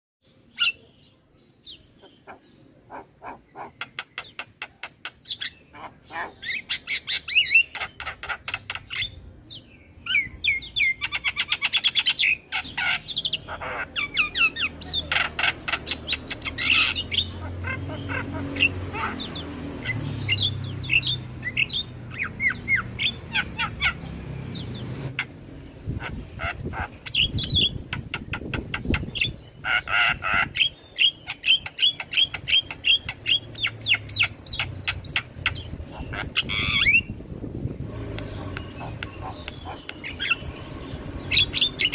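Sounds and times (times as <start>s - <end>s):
bird chattering and whistling: 1.6s - 9.2s, 10.0s - 25.4s, 26.0s - 37.2s, 38.1s - 41.9s.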